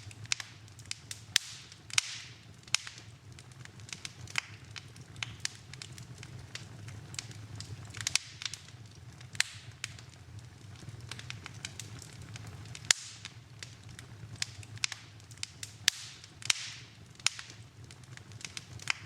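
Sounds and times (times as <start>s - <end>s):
steady rush of flame: 0.0s - 19.0s
wood fire crackling and popping: 0.0s - 19.0s.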